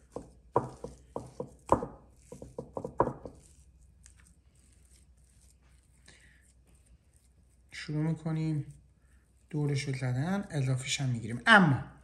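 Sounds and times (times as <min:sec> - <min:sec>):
faint handling sounds: 0:00.9 - 0:10.9.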